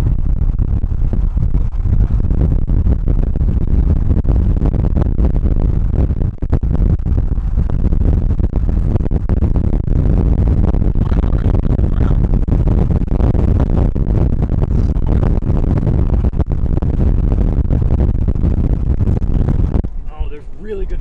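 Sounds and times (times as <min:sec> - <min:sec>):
storm wind buffeting microphone: 0:00.0 - 0:21.0.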